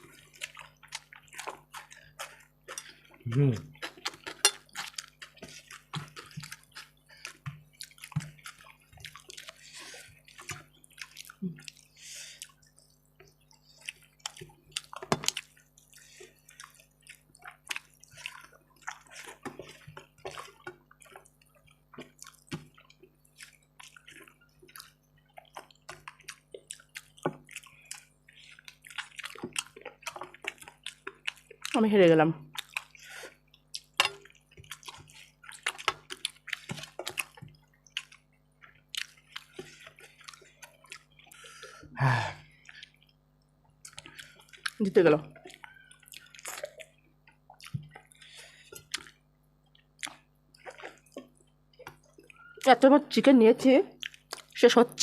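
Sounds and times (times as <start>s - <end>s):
wet eating sounds: 0.0s - 55.0s.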